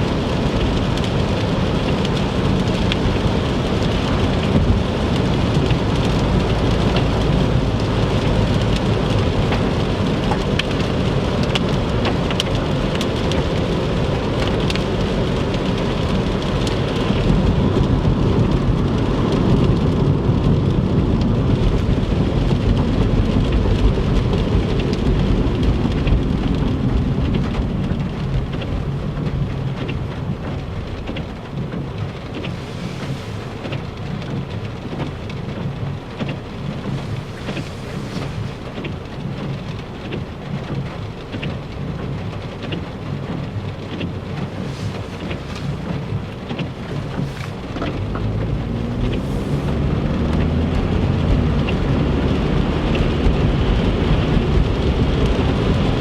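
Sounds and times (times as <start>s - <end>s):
deep steady rumble: 0.0s - 56.0s
rain pelting a car: 0.0s - 56.0s
tyre noise on wet road: 0.0s - 56.0s.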